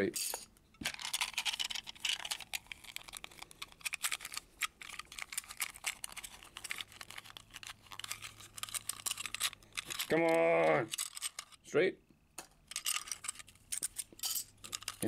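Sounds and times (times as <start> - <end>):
packaging crinkling: 0.8 - 11.6, 12.8 - 15.0
plastic toy pieces clicking: 0.8 - 11.6, 12.7 - 15.0.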